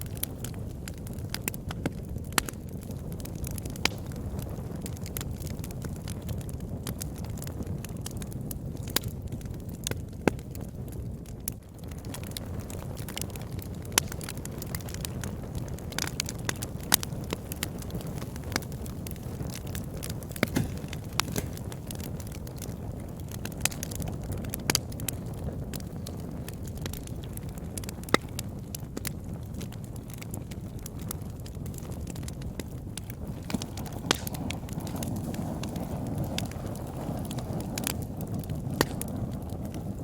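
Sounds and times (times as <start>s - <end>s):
sharp pops of fire: 0.0s - 40.0s
wood fire crackling: 0.0s - 40.0s.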